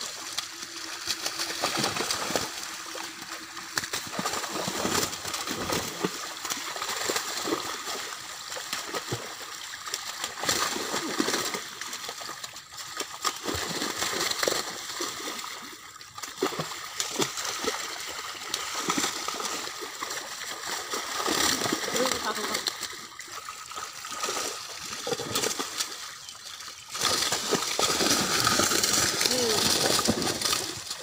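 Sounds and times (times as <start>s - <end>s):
fish splashing in water: 0.0s - 31.0s.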